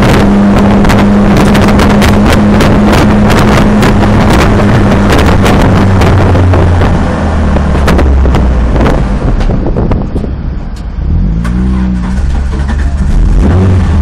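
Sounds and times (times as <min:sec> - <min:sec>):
race car engine revving: 0:00.0 - 0:09.6, 0:11.0 - 0:14.0.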